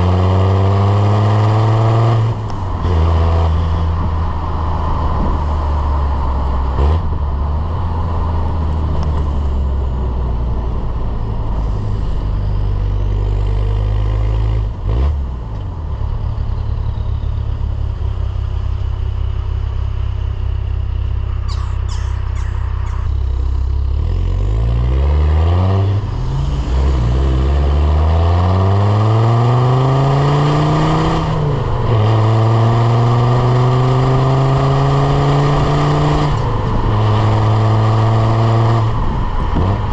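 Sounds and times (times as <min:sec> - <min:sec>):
diesel engine accelerating: 0:00.0 - 0:39.9.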